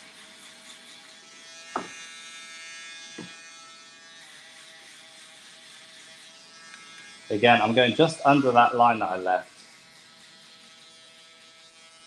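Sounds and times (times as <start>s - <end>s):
electric shaver buzzing: 0.0s - 12.0s.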